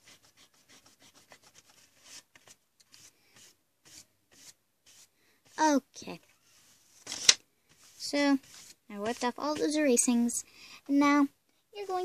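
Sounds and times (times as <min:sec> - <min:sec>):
eraser rubbing on paper: 0:00.0 - 0:10.1.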